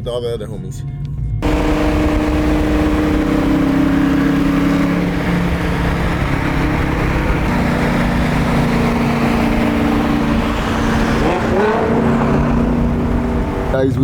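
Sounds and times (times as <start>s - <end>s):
road noise: 1.0s - 14.0s
car engine drone: 1.4s - 14.0s.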